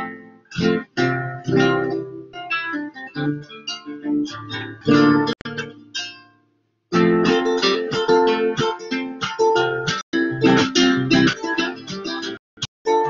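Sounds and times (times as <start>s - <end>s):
classical guitar plucking: 0.0s - 13.0s.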